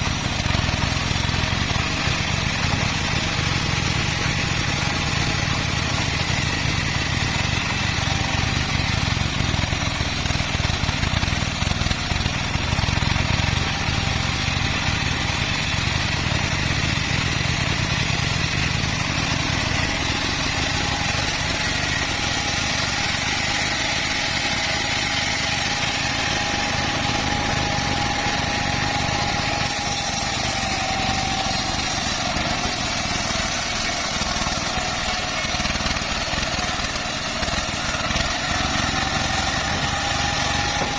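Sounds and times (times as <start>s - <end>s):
band saw cutting wood: 0.0s - 40.9s
thin whine: 0.0s - 40.9s.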